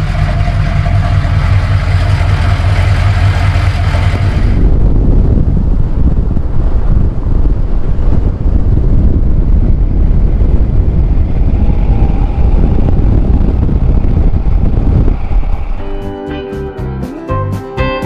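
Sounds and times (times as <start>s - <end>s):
wind buffeting microphone: 0.0s - 17.0s
pickup truck engine rumble: 0.0s - 17.6s.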